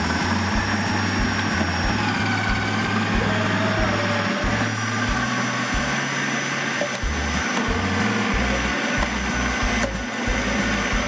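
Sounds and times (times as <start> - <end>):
food processor shredding carrots: 0.0 - 11.0.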